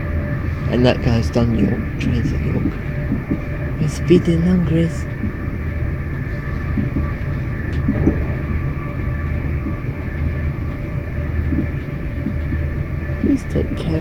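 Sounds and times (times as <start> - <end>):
faint high hum: 0.0 - 14.0
train wheels rumbling: 0.0 - 14.0.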